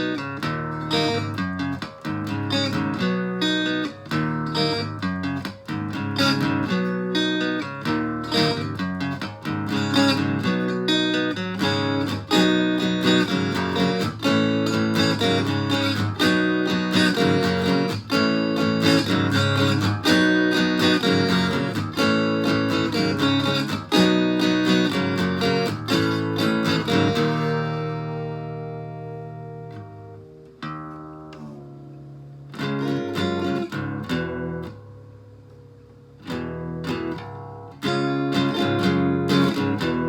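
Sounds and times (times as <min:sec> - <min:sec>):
distorted guitar strumming chords: 0:00.0 - 0:40.0.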